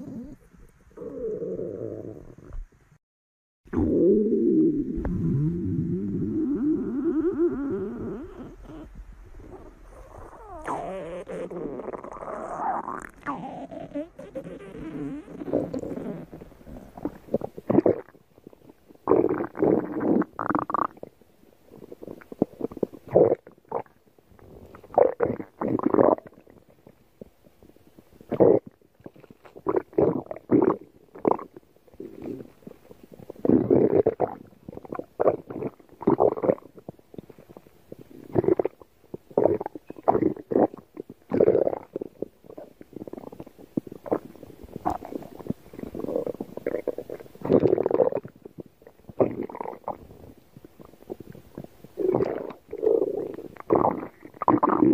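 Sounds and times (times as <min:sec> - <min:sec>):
stomach growling: 0:00.0 - 0:02.8, 0:03.7 - 0:54.9.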